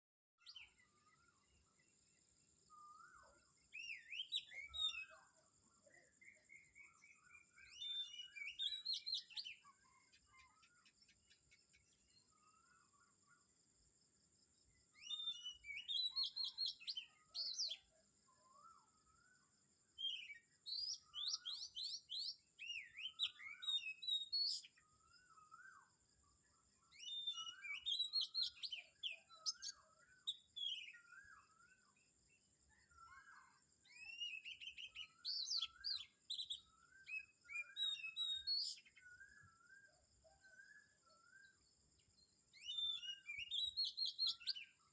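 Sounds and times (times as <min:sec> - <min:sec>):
wild birds singing: 0:00.4 - 0:44.9.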